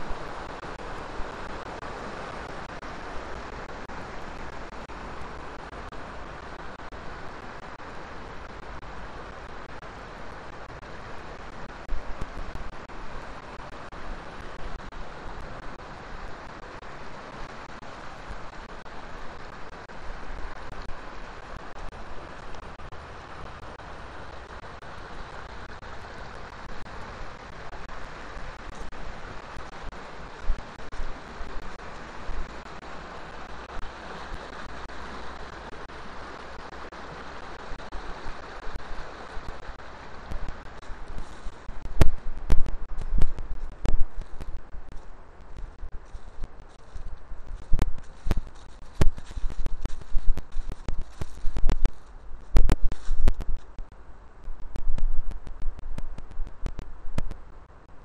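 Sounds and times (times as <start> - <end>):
water rushing over weir: 0.0 - 58.0
wind rumbling on microphone: 0.0 - 58.0.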